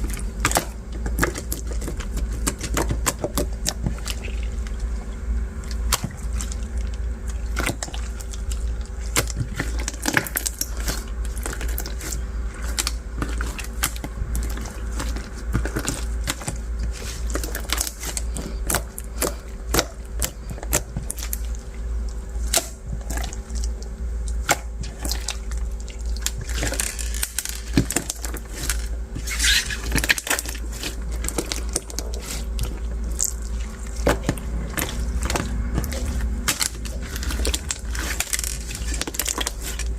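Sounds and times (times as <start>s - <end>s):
slime squishing: 0.0s - 39.9s.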